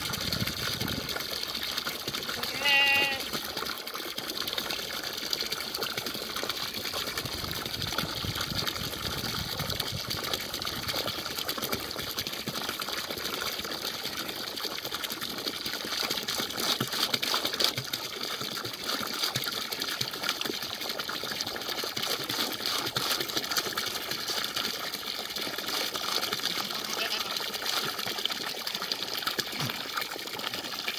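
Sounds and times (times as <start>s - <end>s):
water pouring from hose into tub: 0.0s - 30.9s.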